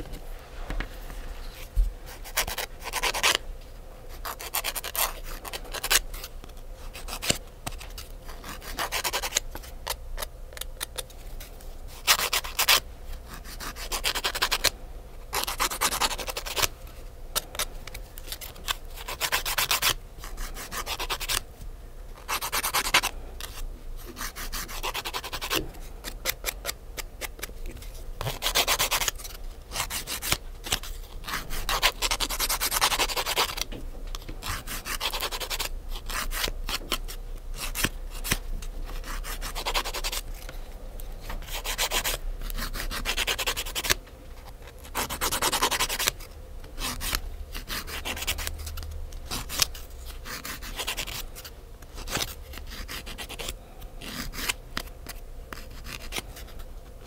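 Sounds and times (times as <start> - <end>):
nail file rasping: 4.2 - 11.0, 11.9 - 14.7, 15.3 - 16.7, 17.3 - 21.4, 22.2 - 27.5, 28.2 - 33.6, 34.4 - 40.2, 41.4 - 46.2, 46.8 - 56.5.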